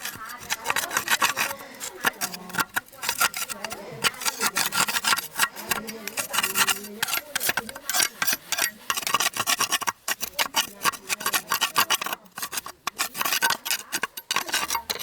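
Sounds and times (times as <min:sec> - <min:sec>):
hand filing rasping strokes: 0:00.0 - 0:15.0.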